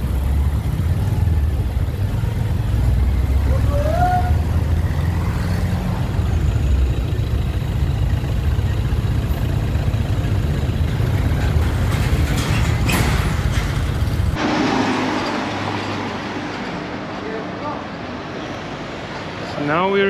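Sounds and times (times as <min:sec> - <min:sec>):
motorcycle engine rumble: 0:00.0 - 0:18.4.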